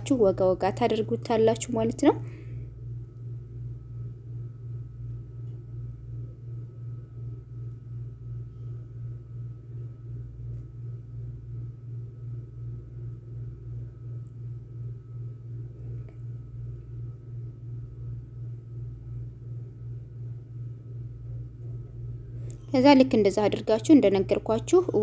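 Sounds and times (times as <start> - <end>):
faint thin whine: 0.0 - 25.0
pulsing low hum: 0.0 - 25.0.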